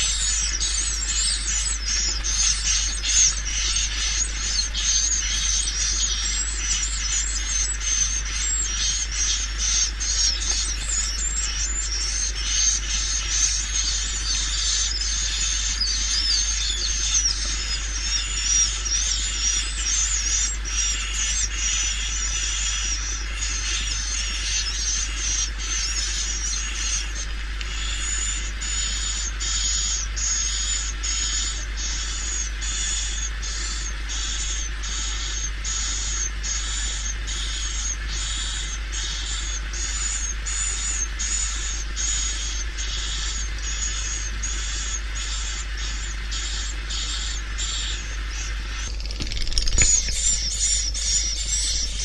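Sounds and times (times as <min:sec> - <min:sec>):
steady low hum: 0:00.0 - 0:52.0
swiftlet call chirping twitter: 0:00.0 - 0:52.0.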